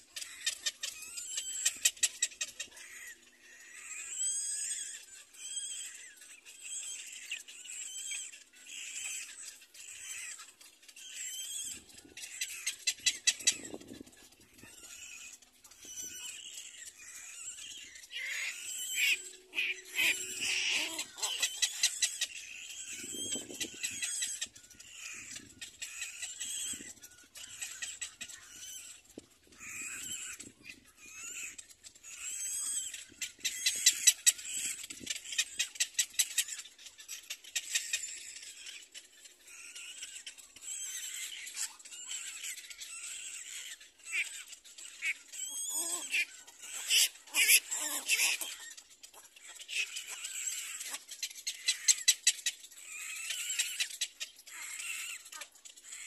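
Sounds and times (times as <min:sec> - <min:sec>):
chicks squealing: 0:00.0 - 0:56.0.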